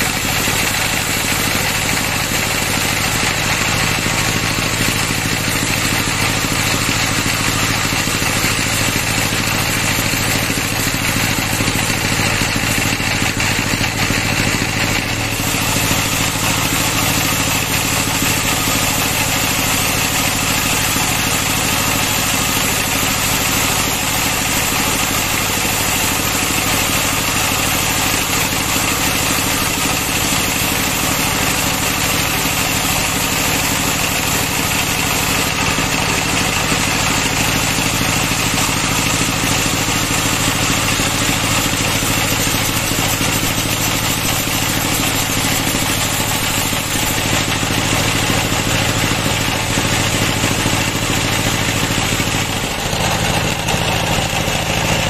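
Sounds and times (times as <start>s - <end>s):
band saw blade ripping through log: 0.0s - 55.0s.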